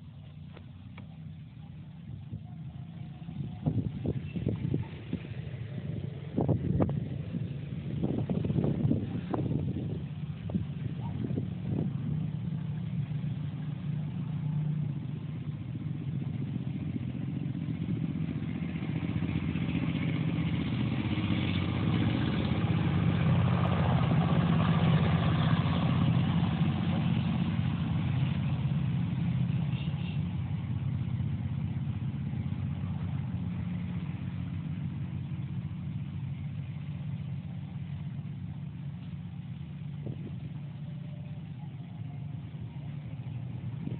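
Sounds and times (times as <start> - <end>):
engine humming: 0.0 - 43.9.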